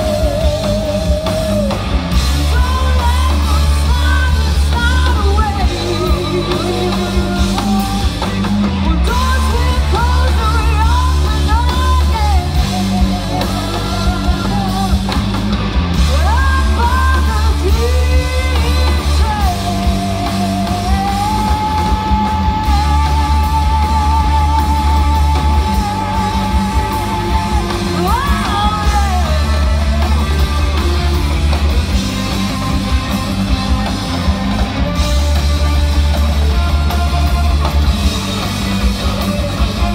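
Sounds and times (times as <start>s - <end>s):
electric guitar lead line: 0.0s - 39.9s
live rock band playing: 0.0s - 39.9s.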